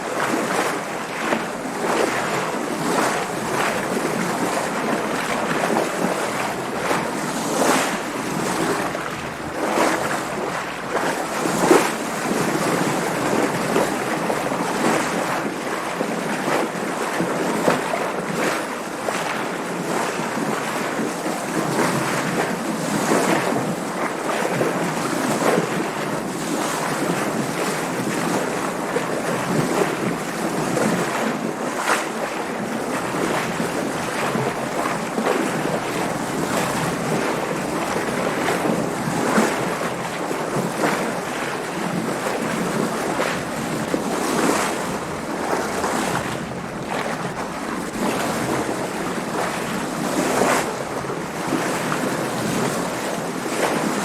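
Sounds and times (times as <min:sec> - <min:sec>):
water splashing against hull: 0:00.0 - 0:54.0
wind: 0:00.0 - 0:54.0.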